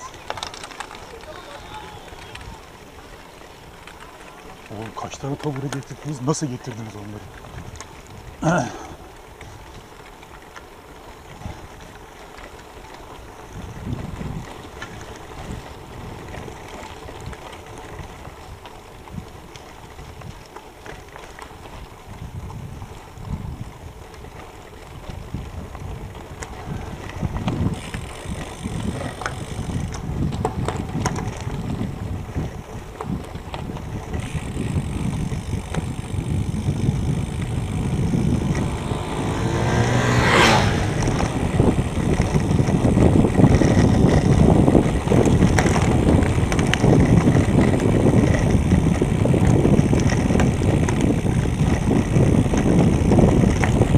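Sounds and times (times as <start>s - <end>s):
bike rattling over stones: 0.0s - 53.9s
bike tyres crunching on gravel: 0.0s - 53.9s
wind buffeting microphone: 0.0s - 53.9s.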